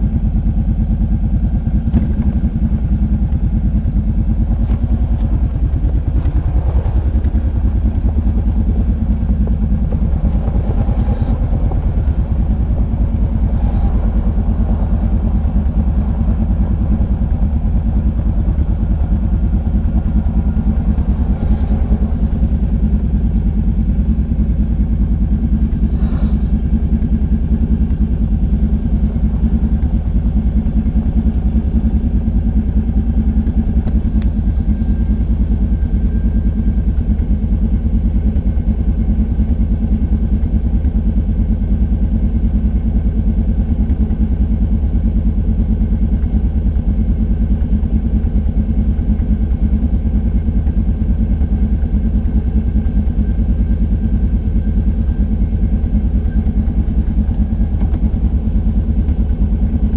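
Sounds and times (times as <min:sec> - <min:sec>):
atv engine chugging: 0:00.0 - 0:59.9.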